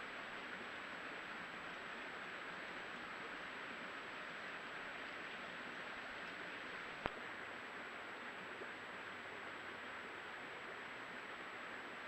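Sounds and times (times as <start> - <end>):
recording hiss: 0.0 - 12.0.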